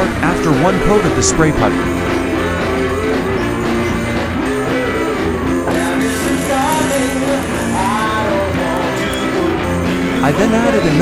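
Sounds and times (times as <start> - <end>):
person singing: 0.0 - 11.0
rock music with guitar: 0.0 - 11.0.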